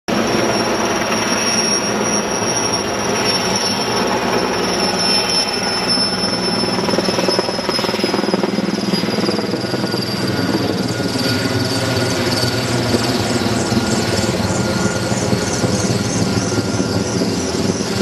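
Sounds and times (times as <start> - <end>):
helicopter flying overhead: 0.1 - 18.0
high turbine whine: 0.1 - 18.0.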